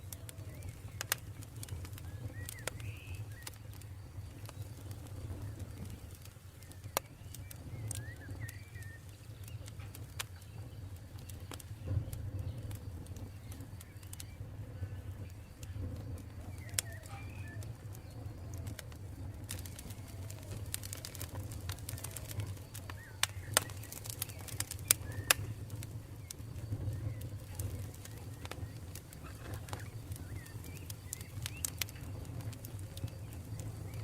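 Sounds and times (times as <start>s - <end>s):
campfire crackling and popping: 0.0s - 34.0s
low rumble of fire: 0.0s - 34.0s.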